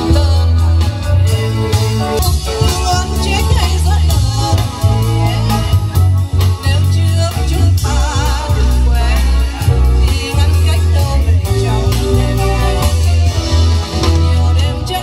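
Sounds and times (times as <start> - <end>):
live band playing: 0.0 - 15.0
woman singing into microphone: 0.0 - 15.0.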